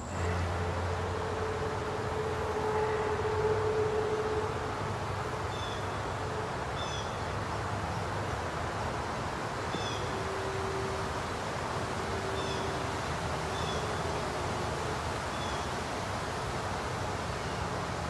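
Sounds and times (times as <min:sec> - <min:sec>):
rushing background noise: 0:00.0 - 0:18.0.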